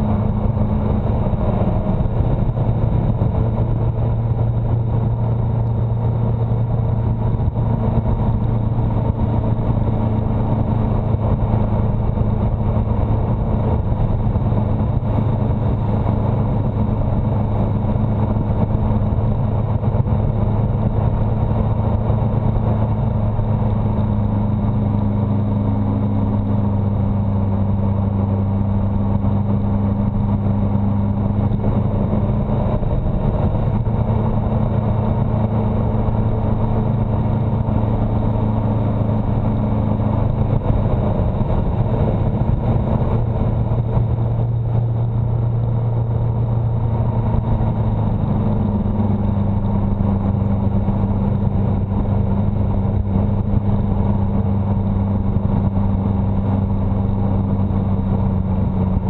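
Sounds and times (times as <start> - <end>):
car engine humming: 0.0 - 59.0
road and wind noise: 0.0 - 59.0.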